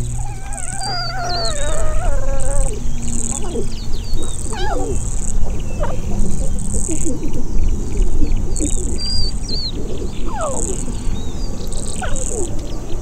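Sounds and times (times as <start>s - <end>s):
birds chirping and whistling: 0.0s - 13.0s
insects buzzing in pulses: 0.0s - 13.0s.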